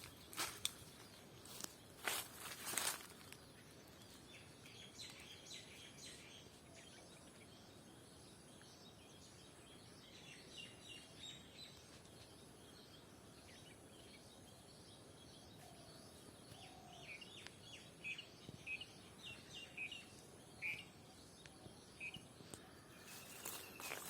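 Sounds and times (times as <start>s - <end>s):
background hiss: 0.0s - 24.0s
faint bird chirps: 0.0s - 24.0s.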